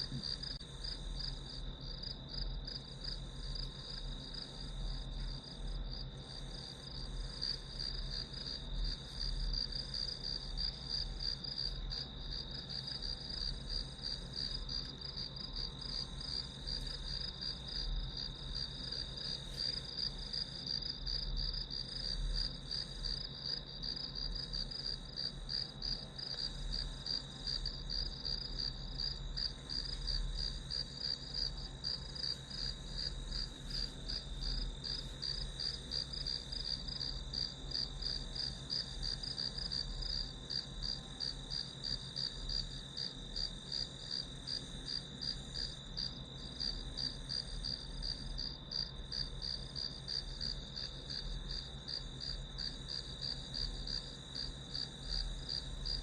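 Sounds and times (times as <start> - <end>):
crickets chirping: 0.0 - 56.0
faint low hum: 0.0 - 56.0.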